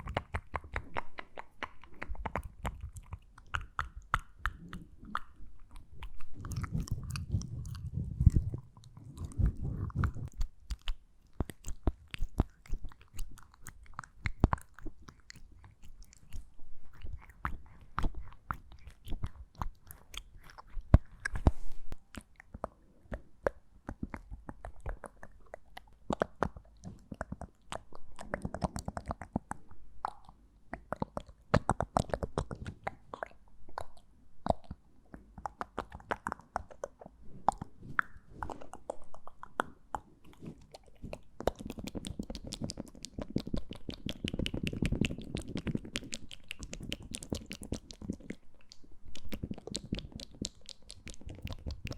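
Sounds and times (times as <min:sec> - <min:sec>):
low-pitched mouth noises: 0:00.0 - 0:51.9
wet mouth clicks and smacks: 0:00.0 - 0:51.9.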